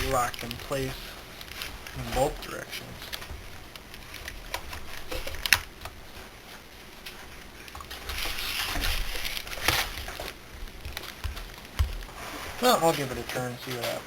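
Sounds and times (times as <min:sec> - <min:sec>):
rustling and scraping: 0:00.0 - 0:14.0.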